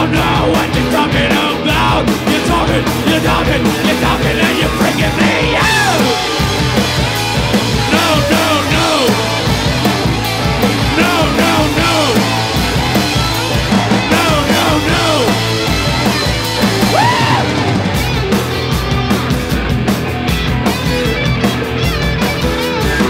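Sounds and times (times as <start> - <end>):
punk rock band playing live: 0.0 - 23.0.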